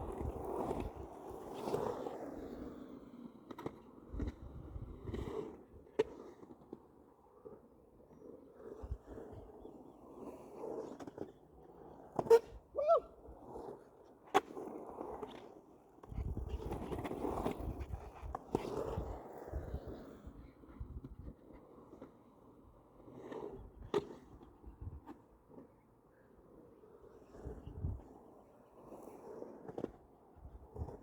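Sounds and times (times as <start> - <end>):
skateboard scraping: 0.0 - 31.0.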